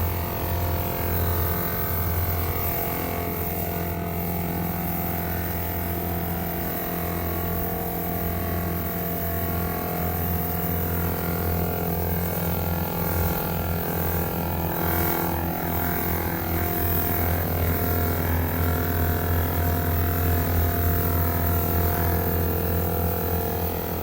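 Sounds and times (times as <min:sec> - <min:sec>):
small pump motor humming: 0:00.0 - 0:24.0.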